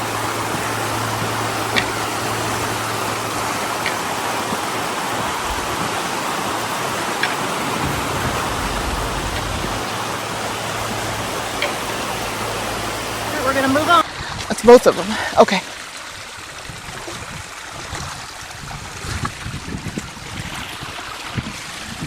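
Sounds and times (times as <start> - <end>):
floodwater rushing from culverts: 0.0 - 22.0.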